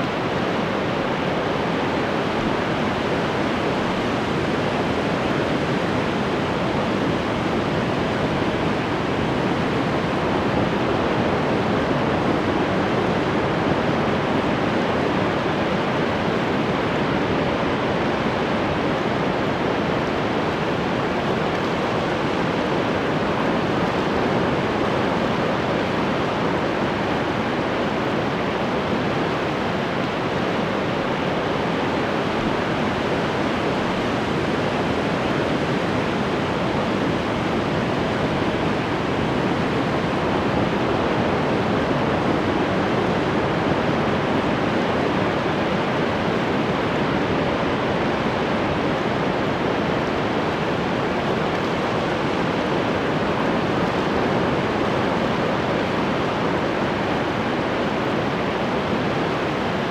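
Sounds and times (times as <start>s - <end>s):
ocean surf washing: 0.0s - 59.9s.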